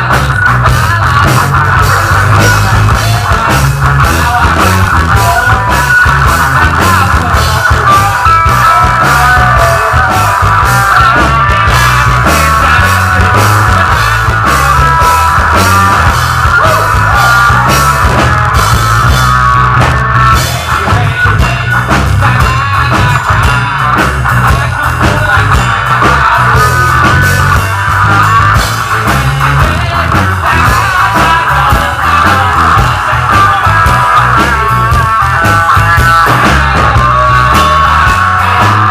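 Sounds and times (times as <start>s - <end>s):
drum kit beating: 0.0s - 38.9s
electric guitars and bass: 0.0s - 38.9s.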